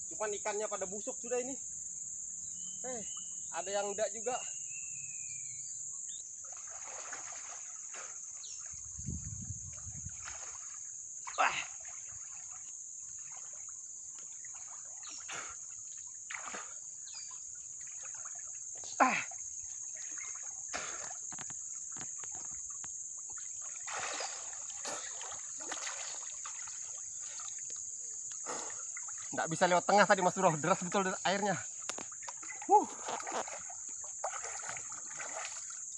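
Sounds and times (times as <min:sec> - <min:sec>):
water splashing and sloshing: 0:06.2 - 0:35.9.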